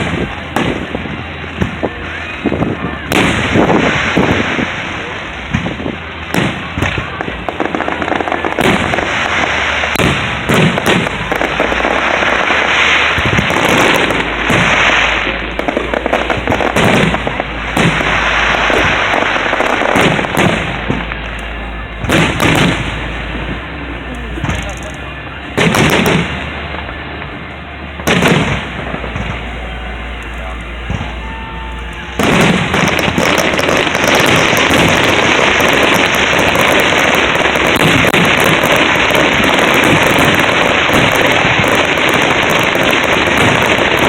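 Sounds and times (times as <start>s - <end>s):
fireworks booming and crackling: 0.0s - 44.0s.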